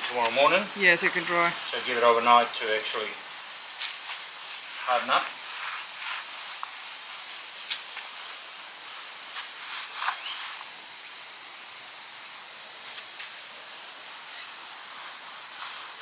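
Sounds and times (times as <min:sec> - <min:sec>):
steady high outdoor hiss: 0:00.0 - 0:16.0.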